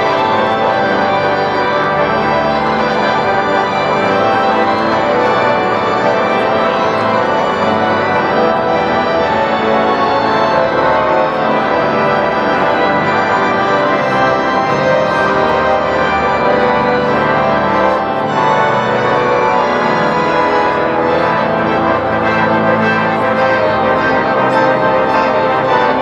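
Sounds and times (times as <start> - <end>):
pipe organ playing full chords: 0.0 - 26.0.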